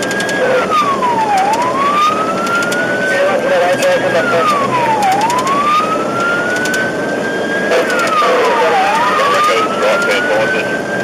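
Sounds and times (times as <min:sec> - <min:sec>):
fire truck siren wailing: 0:00.0 - 0:11.0
truck driving: 0:00.0 - 0:11.0.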